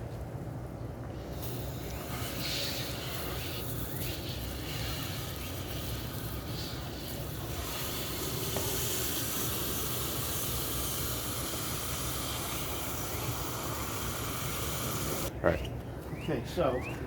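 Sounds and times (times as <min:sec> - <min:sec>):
water spraying hiss: 0:01.2 - 0:15.3.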